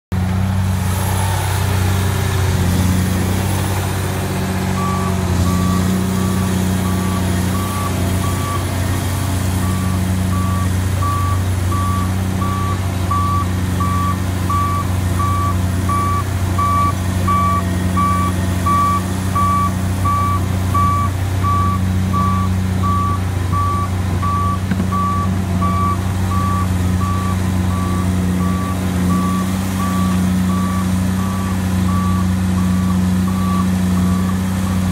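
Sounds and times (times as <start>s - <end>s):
diesel engine running: 0.1s - 34.9s
backup alarm beeping: 4.8s - 8.7s, 9.6s - 34.8s.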